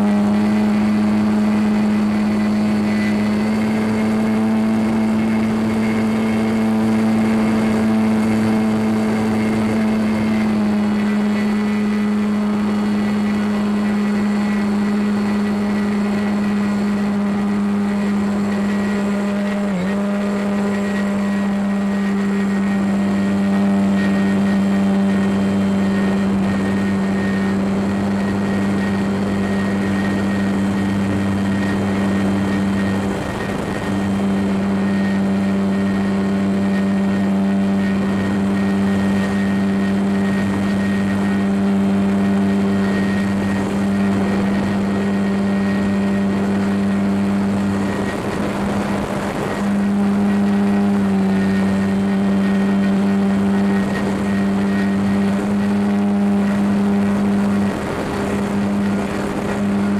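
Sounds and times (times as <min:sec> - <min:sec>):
model plane motor and propeller drone: 0:00.0 - 0:59.9.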